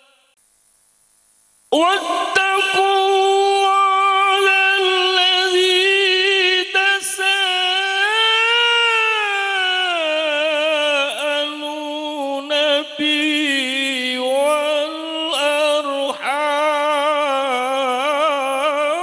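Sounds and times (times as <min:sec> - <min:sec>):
man chanting into a microphone: 0:00.0 - 0:00.3, 0:01.7 - 0:19.0.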